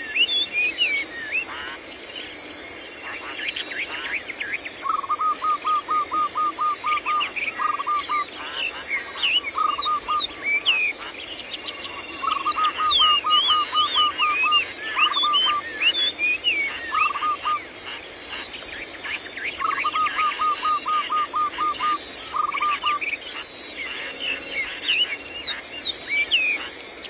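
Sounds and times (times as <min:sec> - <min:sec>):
birds whistling and chirping: 0:00.0 - 0:01.7, 0:03.5 - 0:17.7, 0:18.3 - 0:27.0
high insect drone: 0:00.0 - 0:27.0.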